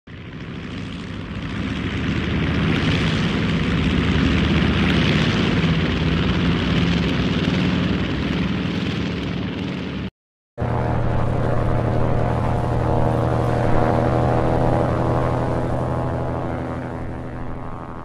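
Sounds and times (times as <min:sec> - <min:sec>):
turboprop airplane flying past: 0:00.1 - 0:18.0.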